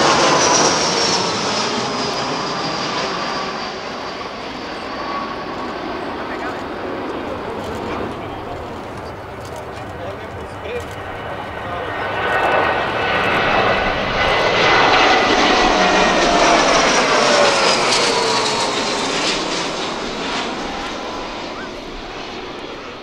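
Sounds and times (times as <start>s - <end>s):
jet planes flying past: 0.0s - 23.0s
whining jet engines: 0.0s - 23.0s.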